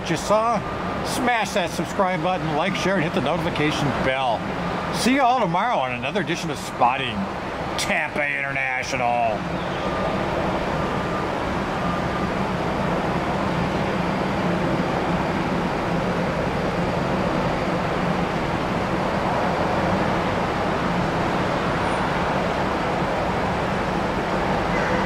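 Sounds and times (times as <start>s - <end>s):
airport noise: 0.0s - 25.0s
jet engines rumbling: 0.0s - 25.0s.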